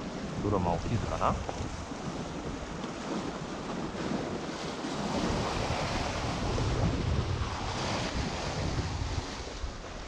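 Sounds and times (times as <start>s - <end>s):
waves on rocky shore: 0.0s - 10.0s
wind buffeting microphone: 0.0s - 10.0s.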